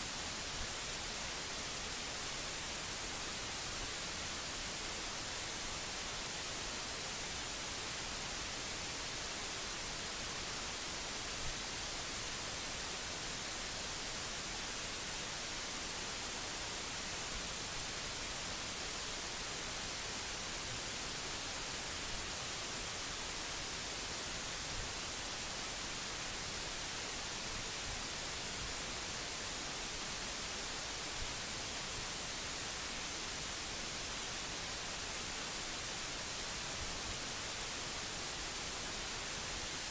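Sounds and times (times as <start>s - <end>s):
microphone hiss: 0.0s - 39.9s.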